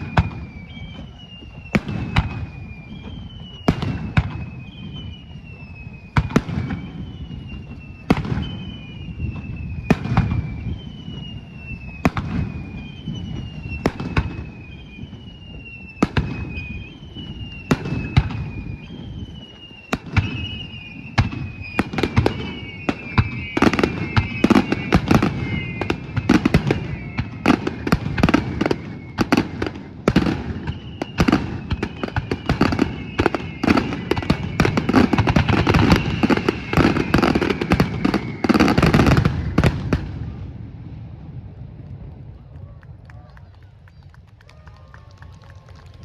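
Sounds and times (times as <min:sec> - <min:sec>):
fireworks bursting and crackling: 0:00.0 - 0:46.0.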